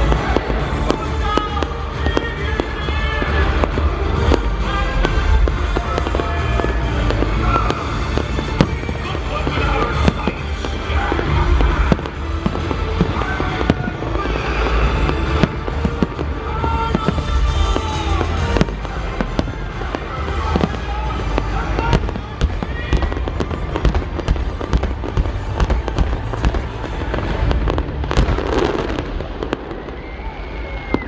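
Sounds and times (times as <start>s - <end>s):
music playing: 0.0s - 29.9s
heavy low rumble: 0.0s - 30.0s
firework bangs and crackles: 0.0s - 31.0s.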